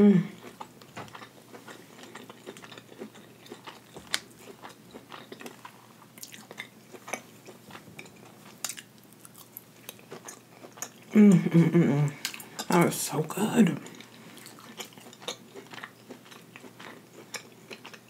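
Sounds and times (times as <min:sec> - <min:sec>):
chewing and mouth sounds: 0:00.4 - 0:12.9, 0:13.8 - 0:18.0.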